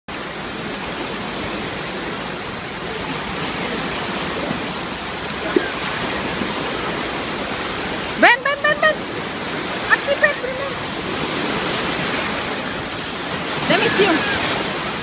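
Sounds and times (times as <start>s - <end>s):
falling splashing water: 0.1s - 15.0s.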